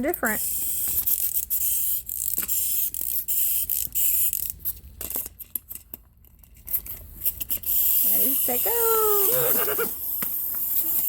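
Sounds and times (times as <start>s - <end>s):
wind-up toy ratchet clicks: 0.0s - 5.3s, 6.7s - 11.0s.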